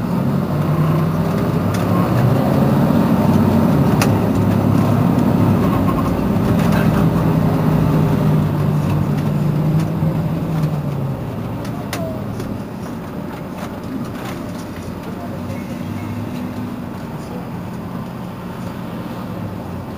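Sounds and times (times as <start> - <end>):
bus engine idling: 0.0 - 19.9.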